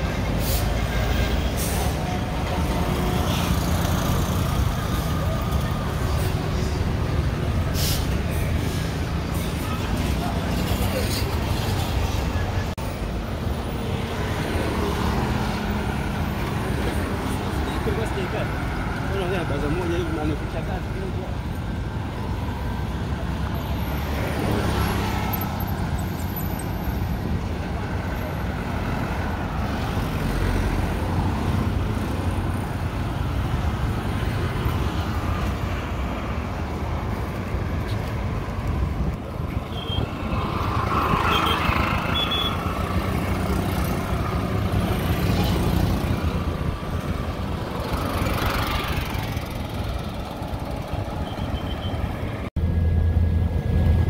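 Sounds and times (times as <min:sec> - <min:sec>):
traffic rumble: 0:00.0 - 0:54.0
vehicles passing close: 0:00.0 - 0:54.0.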